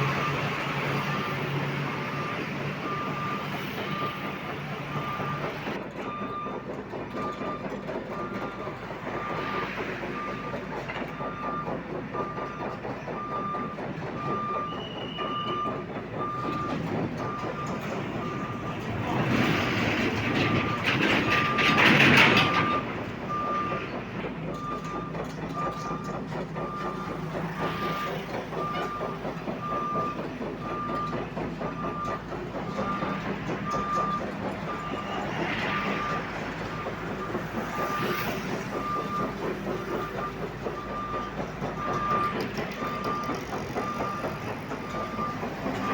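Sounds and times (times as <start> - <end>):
engine noise: 0.0 - 45.9
reversing alarm beeping: 0.0 - 45.9
traffic noise: 0.0 - 45.9.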